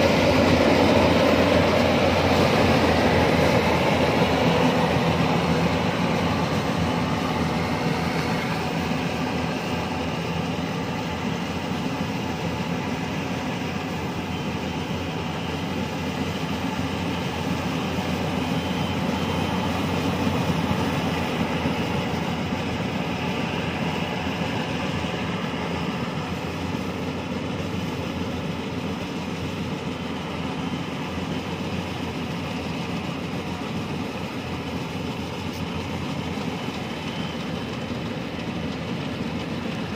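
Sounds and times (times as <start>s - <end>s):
combine harvester engine drone: 0.0s - 39.9s
machinery whirring: 0.0s - 39.9s.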